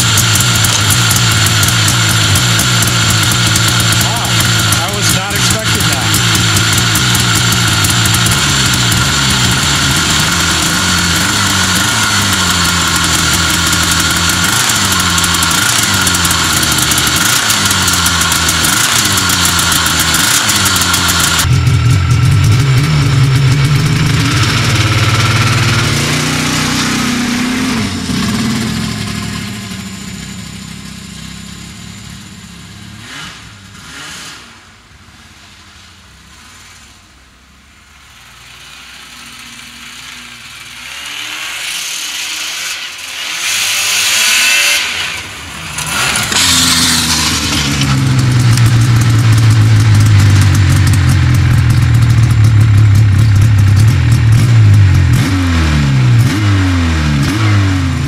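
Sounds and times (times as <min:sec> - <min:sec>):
snowmobile engine running: 0:00.0 - 0:34.4, 0:38.0 - 0:58.0.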